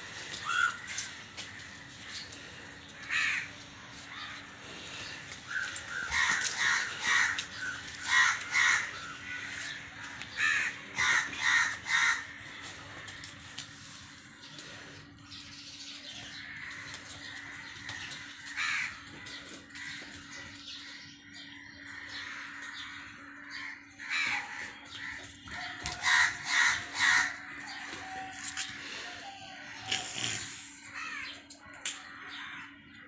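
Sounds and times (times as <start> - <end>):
birds calling: 0.0 - 33.0
loud harsh bird calls: 0.0 - 33.0.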